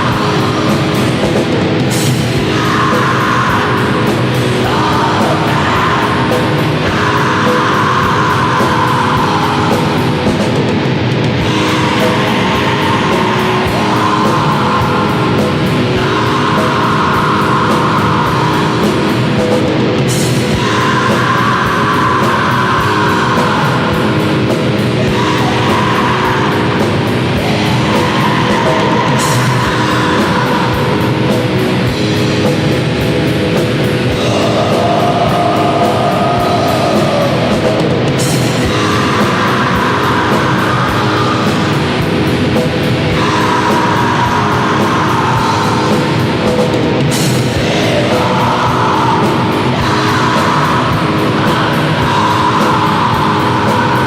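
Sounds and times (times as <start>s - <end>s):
black metal guitars: 0.0s - 54.0s.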